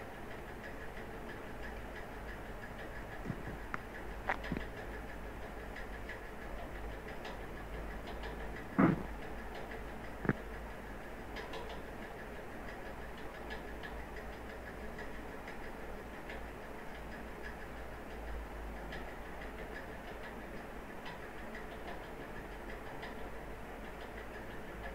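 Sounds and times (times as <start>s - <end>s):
steady hiss and low hum: 0.0s - 24.9s.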